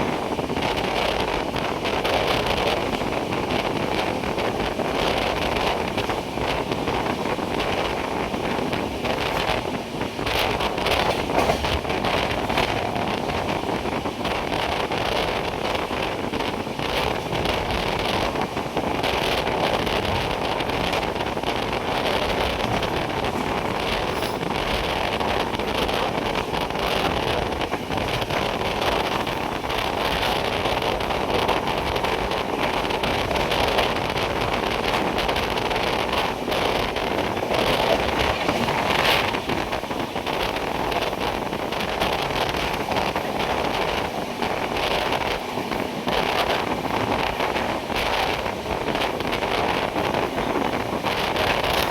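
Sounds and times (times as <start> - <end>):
moving train rumble: 0.0 - 51.9
wind buffeting microphone: 0.0 - 51.9.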